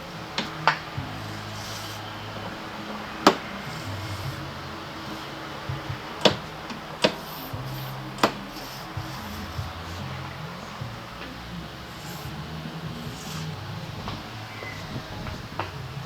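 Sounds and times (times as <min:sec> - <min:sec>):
background music low notes: 0:00.0 - 0:16.0.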